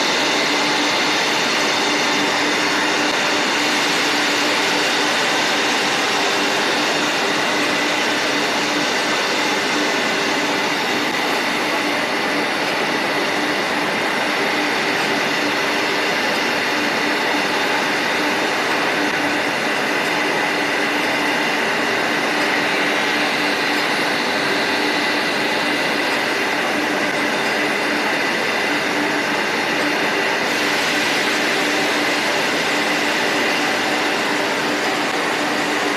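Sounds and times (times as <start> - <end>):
wood mortising machine running: 0.0 - 35.9.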